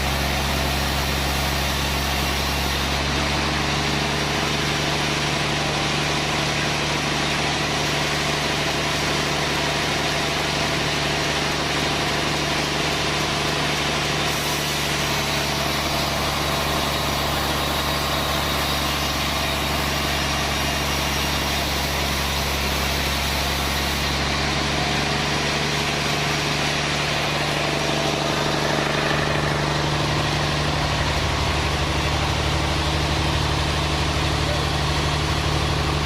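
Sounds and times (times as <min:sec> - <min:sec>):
sawmill machinery humming: 0:00.0 - 0:36.0.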